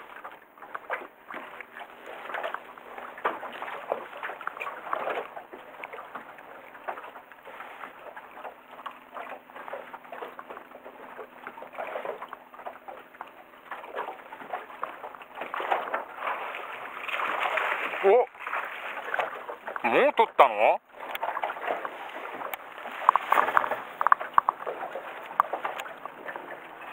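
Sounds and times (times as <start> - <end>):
water slapping against boat hull: 0.0 - 26.9.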